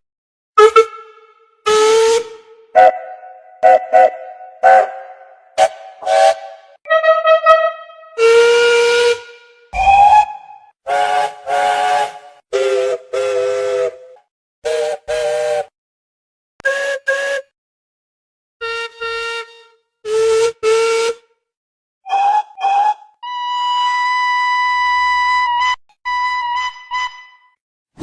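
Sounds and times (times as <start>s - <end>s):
steam locomotive whistle: 0.6s - 15.7s, 16.6s - 17.5s, 18.6s - 21.2s, 22.1s - 27.5s.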